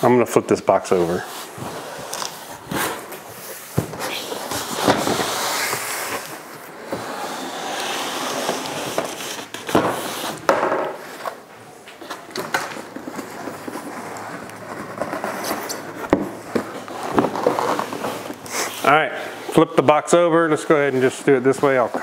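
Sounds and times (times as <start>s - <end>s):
cardboard scraping and rustling: 1.1s - 19.1s.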